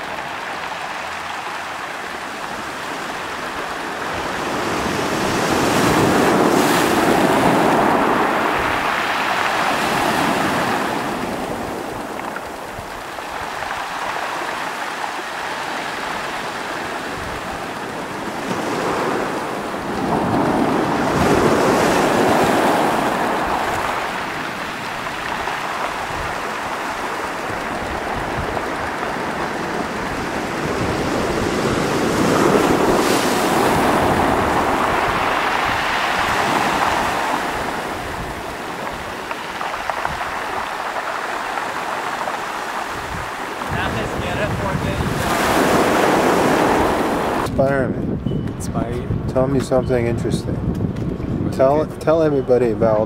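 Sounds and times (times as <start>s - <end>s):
waves washing on pebble beach: 0.0s - 47.5s.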